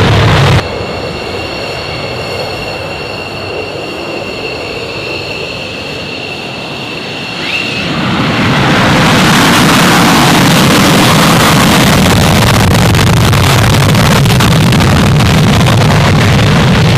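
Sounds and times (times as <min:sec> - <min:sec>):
jet engines whining: 0:00.0 - 0:16.9
loud rush of jet noise: 0:00.0 - 0:16.9.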